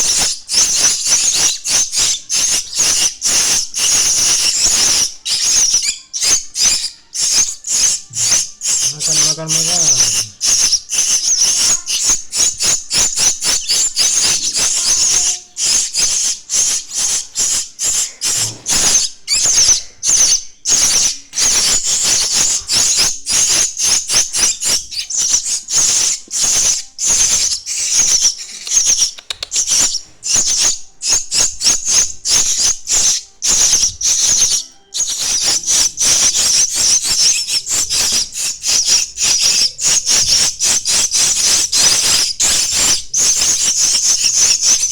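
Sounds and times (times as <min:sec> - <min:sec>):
chicks begging with raspy calls: 0:00.0 - 0:44.9.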